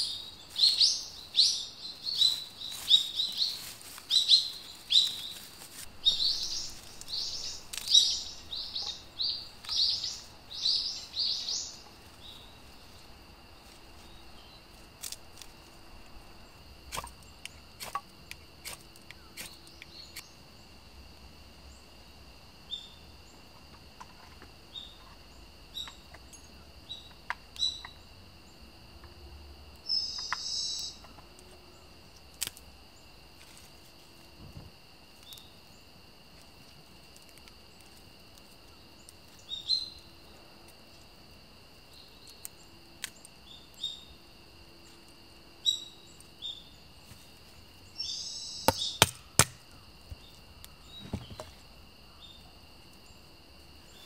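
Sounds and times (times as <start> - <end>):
songbird chirping: 0.0 - 20.8, 22.6 - 28.8, 29.8 - 33.3, 34.8 - 36.0, 37.3 - 40.8, 41.8 - 54.0.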